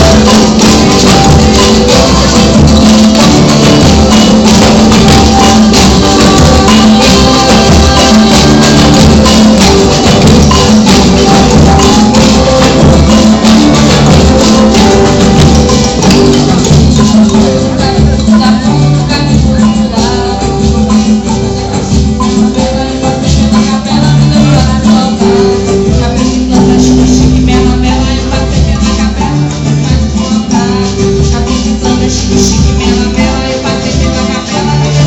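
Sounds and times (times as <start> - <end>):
music with steady percussion beat: 0.0 - 35.0.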